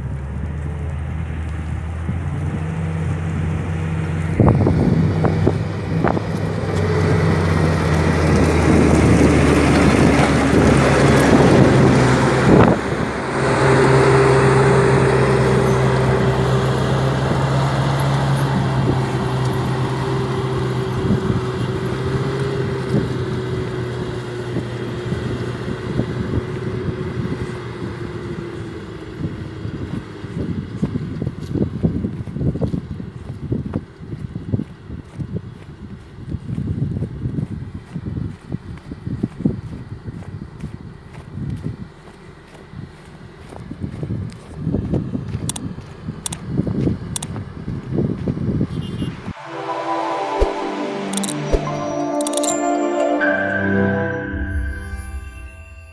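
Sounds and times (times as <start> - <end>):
diesel engine running: 0.0 - 49.4.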